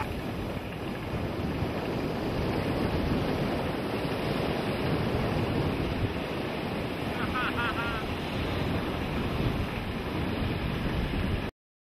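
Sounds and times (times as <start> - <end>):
ocean surf breaking: 0.0 - 11.5.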